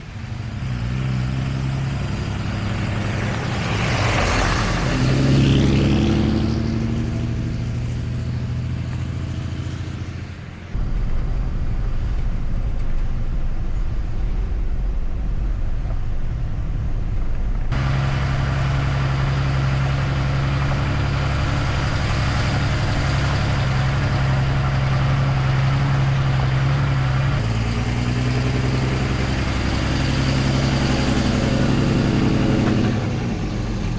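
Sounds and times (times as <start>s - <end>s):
truck engine driving: 0.0s - 33.9s.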